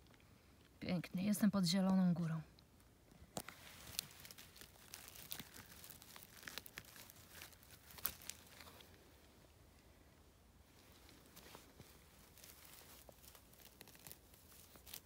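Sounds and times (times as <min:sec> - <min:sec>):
twigs crackling and rustling: 0:00.0 - 0:09.9, 0:10.6 - 0:15.0.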